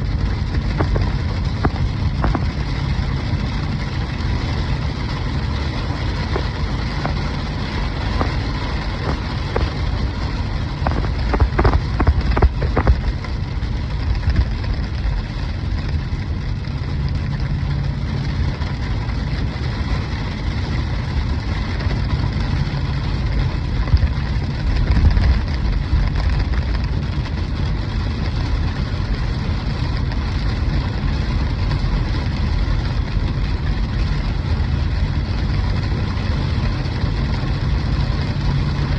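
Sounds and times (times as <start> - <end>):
hail striking: 0.0 - 38.9
low rumble: 0.0 - 38.9.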